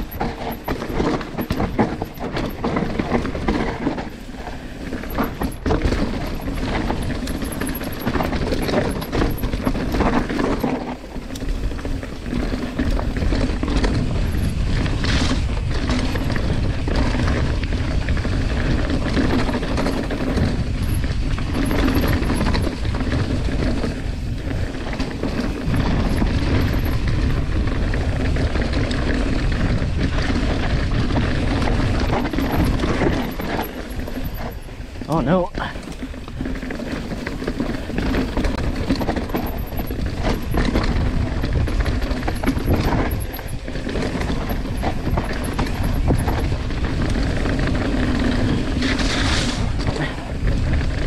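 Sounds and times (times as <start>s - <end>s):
bike rattling: 0.0s - 51.0s
tyres rolling over dirt and stones: 0.0s - 51.0s
wind rushing over microphone: 0.0s - 51.0s.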